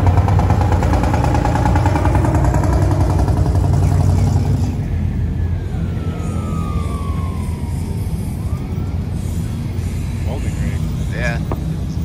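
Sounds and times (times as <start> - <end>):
vehicle engines rumbling: 0.0 - 12.0
high tone sliding downward: 0.7 - 10.7.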